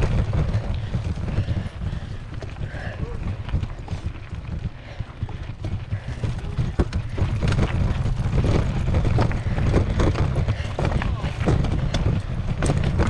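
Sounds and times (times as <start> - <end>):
mountain bike rattling over rocks: 0.0 - 13.0
wind rumble on microphone: 0.0 - 13.0.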